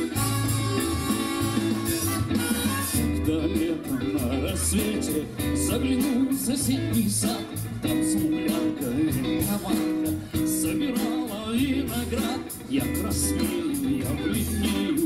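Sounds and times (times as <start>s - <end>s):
live band music: 0.0s - 15.0s
man singing: 0.0s - 15.0s.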